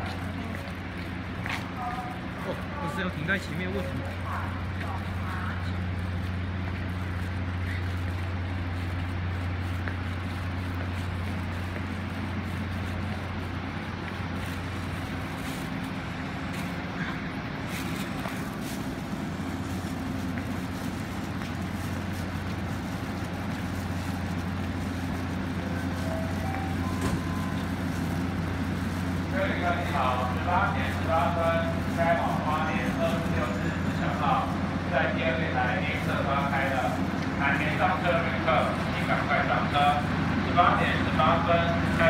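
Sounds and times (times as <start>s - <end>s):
diesel train engine droning: 0.0s - 42.0s.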